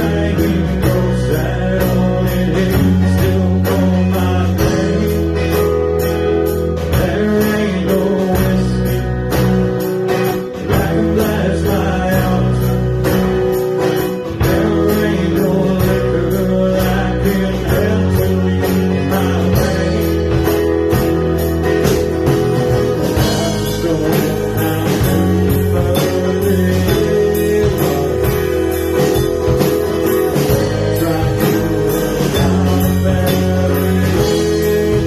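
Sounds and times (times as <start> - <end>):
person singing: 0.0 - 6.0, 6.7 - 9.4, 10.4 - 13.0, 14.2 - 21.6, 22.8 - 35.0
bass: 0.0 - 35.0
drums with regular beat: 0.0 - 35.0
strummed guitar: 0.0 - 35.0.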